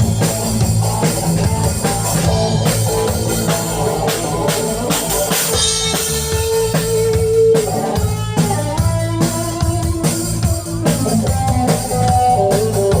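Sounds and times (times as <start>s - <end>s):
bass line: 0.0s - 13.0s
drum kit beat: 0.0s - 13.0s.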